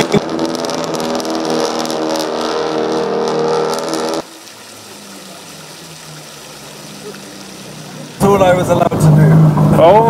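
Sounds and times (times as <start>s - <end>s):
car engine driving off: 0.0s - 10.0s
fountain splashing: 0.0s - 10.0s.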